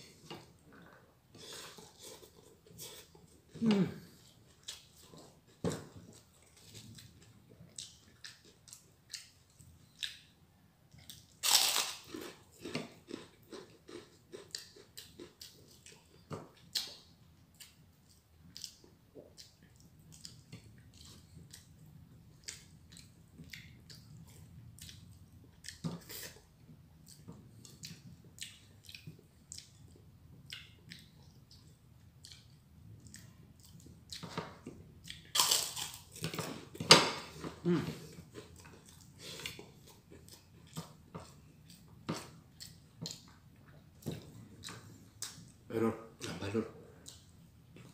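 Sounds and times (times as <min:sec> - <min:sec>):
person chewing crunchy food: 0:00.1 - 0:10.3, 0:10.9 - 0:45.6.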